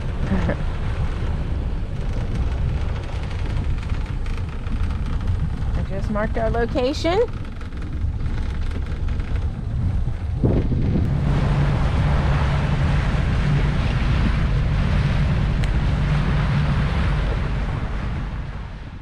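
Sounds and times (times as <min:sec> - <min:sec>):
rushing water: 0:00.0 - 0:06.0, 0:06.7 - 0:19.0
boat motor humming: 0:00.0 - 0:19.0
wind buffeting microphone: 0:00.0 - 0:19.0.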